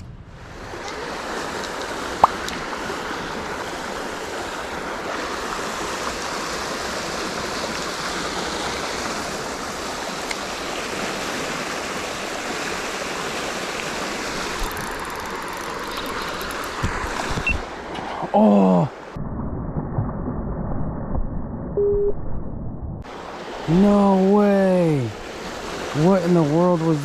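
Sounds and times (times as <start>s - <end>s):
creek flowing: 0.4s - 19.2s, 23.1s - 27.0s.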